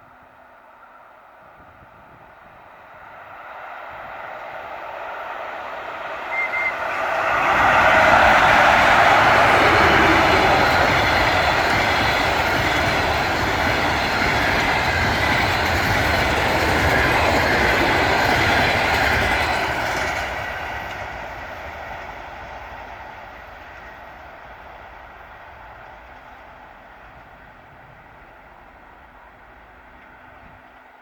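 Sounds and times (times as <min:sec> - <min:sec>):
passenger train rolling past: 0:00.0 - 0:31.0.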